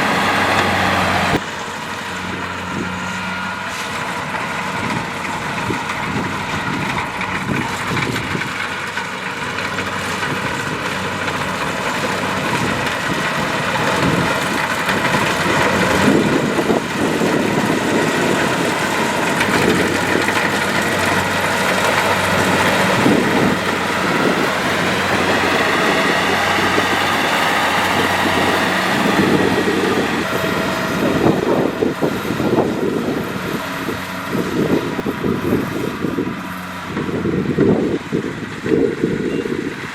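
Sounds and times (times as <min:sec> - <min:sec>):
combine harvester engine drone: 0:00.0 - 0:39.9
mechanical rushing noise: 0:00.0 - 0:39.9.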